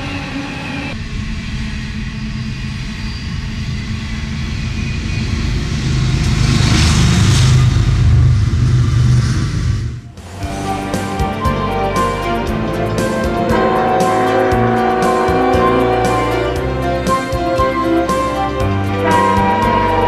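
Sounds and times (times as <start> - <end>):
diesel locomotive engines droning: 0.0 - 20.0
train wheels rolling on rails: 0.0 - 20.0.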